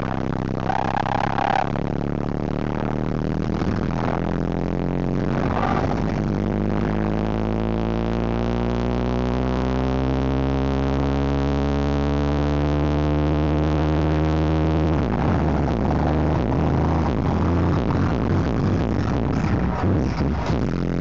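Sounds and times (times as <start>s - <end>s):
deep synthesizer drone: 0.0s - 21.0s.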